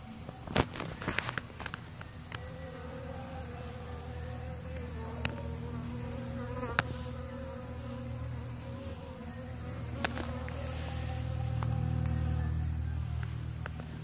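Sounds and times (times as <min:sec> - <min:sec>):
bees buzzing: 0:00.0 - 0:14.0
low steady hum: 0:00.0 - 0:14.0.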